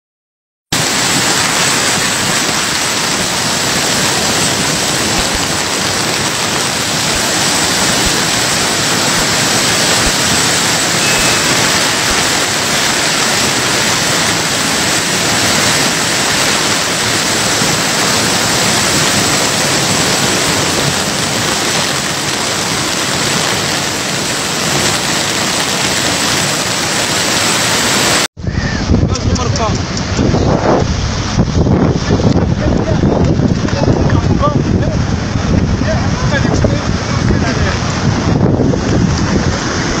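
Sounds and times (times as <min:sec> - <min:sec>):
rushing floodwater river: 0:00.8 - 0:40.0.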